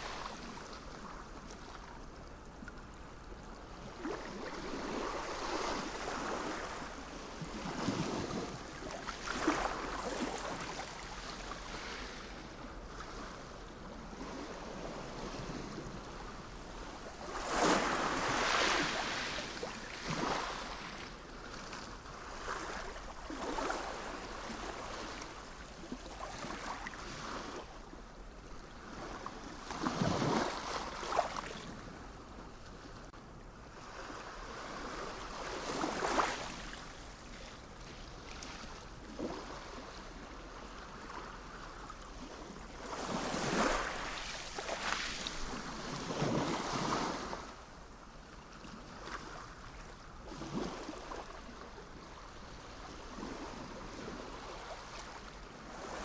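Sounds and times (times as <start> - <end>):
sea waves breaking on shore: 0.0 - 33.1, 33.7 - 48.0, 48.6 - 56.0.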